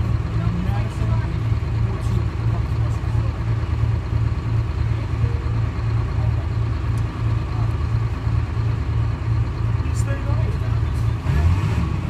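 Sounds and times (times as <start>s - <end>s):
diesel bus engine throbbing: 0.0s - 12.0s.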